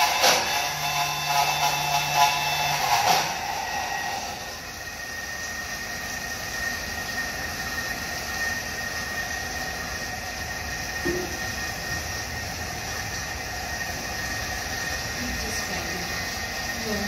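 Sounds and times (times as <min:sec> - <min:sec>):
kitchen blender motor whirring: 0:00.0 - 0:17.0.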